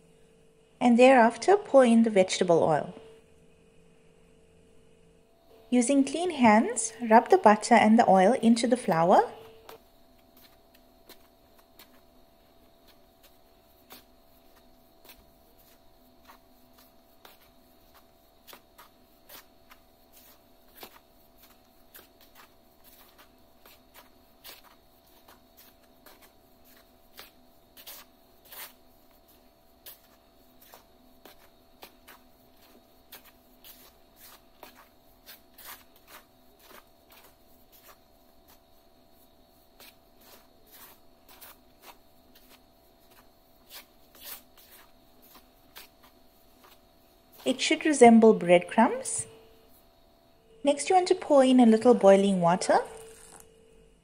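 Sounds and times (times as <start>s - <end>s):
steady low hum: 0.0s - 54.0s
fingers rubbing flour in bowl: 6.0s - 49.8s.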